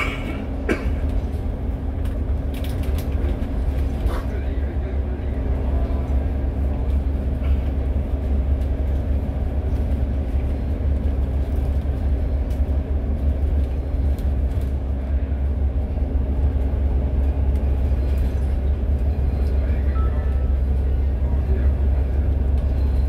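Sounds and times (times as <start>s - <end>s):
bus engine and tyres rumbling: 0.0s - 23.0s
constant hum: 0.0s - 23.0s.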